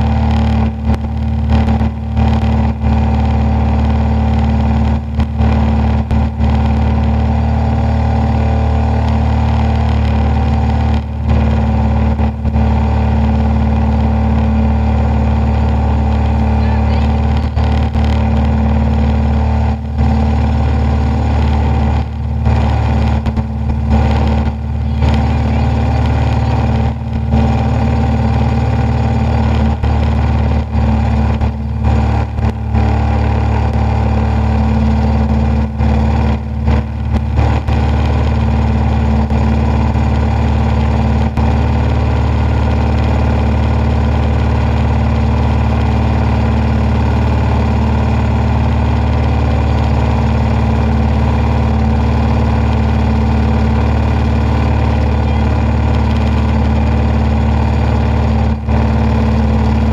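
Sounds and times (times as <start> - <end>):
motorglider engine droning: 0.0 - 59.9.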